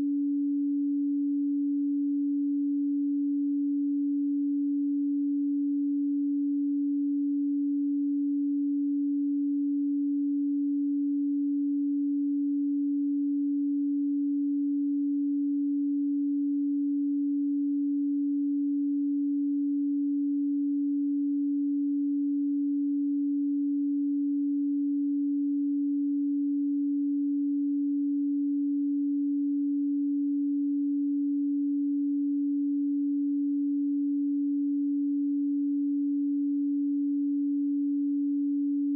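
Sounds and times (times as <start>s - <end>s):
pure sine tone: 0.0s - 38.9s.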